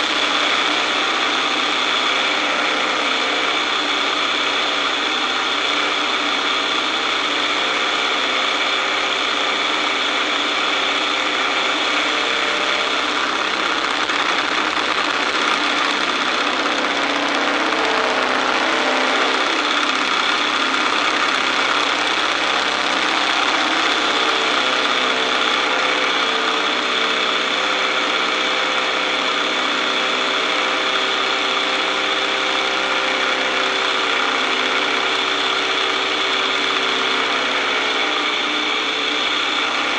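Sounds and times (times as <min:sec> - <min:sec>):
biplane radial engine running: 0:00.0 - 0:39.9.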